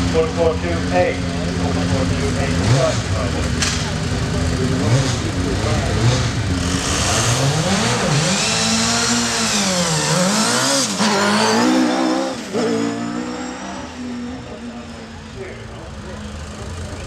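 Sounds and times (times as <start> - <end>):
racing car accelerating: 0.0 - 17.0.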